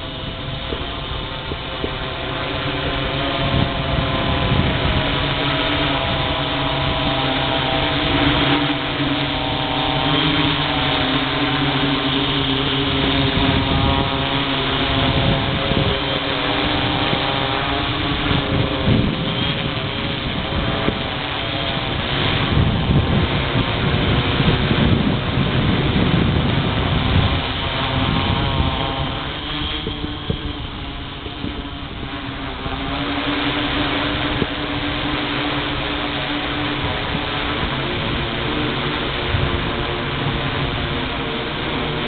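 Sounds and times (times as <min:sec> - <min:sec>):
multicopter buzzing hum: 0:00.0 - 0:42.0.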